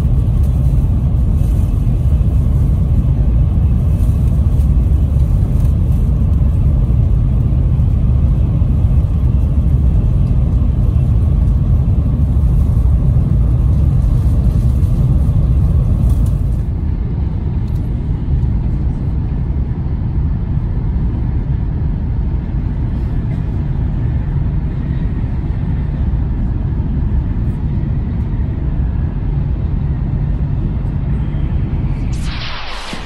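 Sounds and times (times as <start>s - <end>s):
train rumbling at speed: 0.0s - 33.0s.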